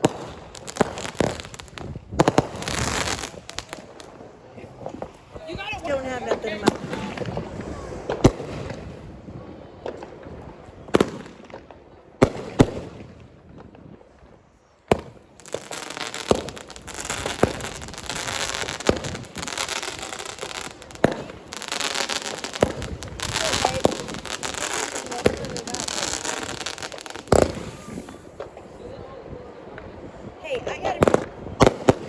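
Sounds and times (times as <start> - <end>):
fireworks bangs: 0.0 - 14.2, 14.8 - 28.8, 30.9 - 32.0
fireworks hissing crackle with pops: 0.0 - 28.9, 30.9 - 32.0.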